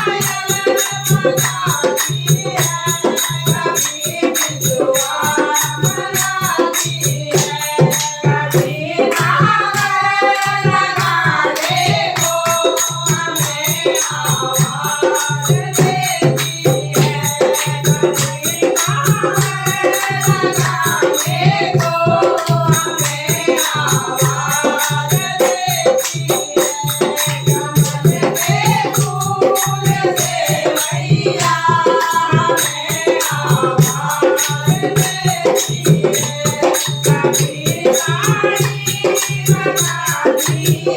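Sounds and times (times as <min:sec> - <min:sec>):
fast percussion strokes: 0:00.0 - 0:40.9
person singing devotional song: 0:00.0 - 0:40.9.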